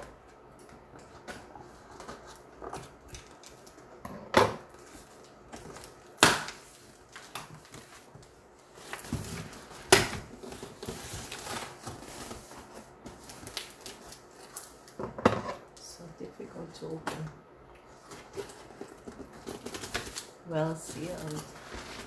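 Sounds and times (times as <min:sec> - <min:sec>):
cardboard and tape rustling: 0:00.0 - 0:22.0.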